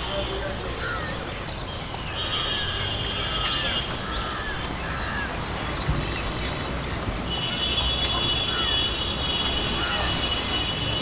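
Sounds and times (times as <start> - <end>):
birds chirping: 0.0 - 8.9.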